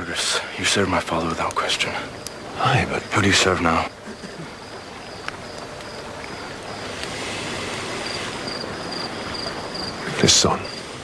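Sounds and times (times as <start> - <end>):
crickets chirping: 0.0 - 11.0
night ambience hiss: 0.0 - 11.0.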